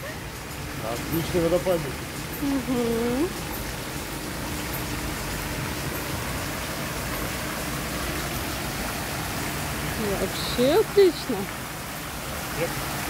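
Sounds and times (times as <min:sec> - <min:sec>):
waterfall splashing: 0:00.0 - 0:13.0.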